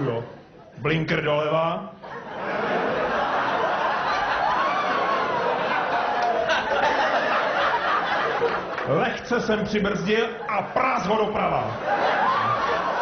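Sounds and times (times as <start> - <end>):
audience laughing: 2.0 - 13.0.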